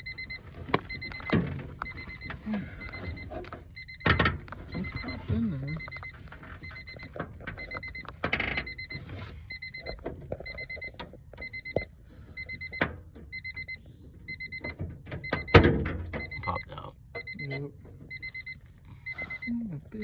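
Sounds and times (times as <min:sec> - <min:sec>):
car warning chime beeping: 0:00.0 - 0:20.0.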